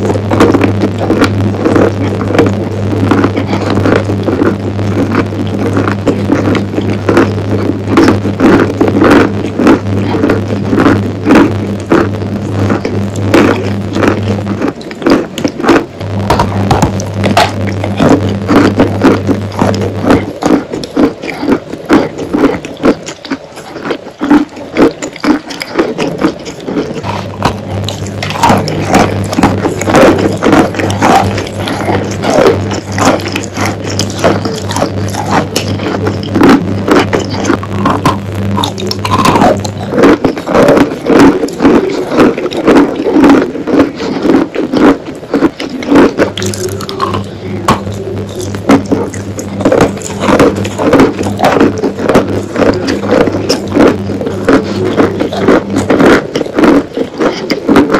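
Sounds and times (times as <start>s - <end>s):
chalk being chewed and crunched: 0.0s - 57.9s
steady low hum: 0.0s - 57.9s.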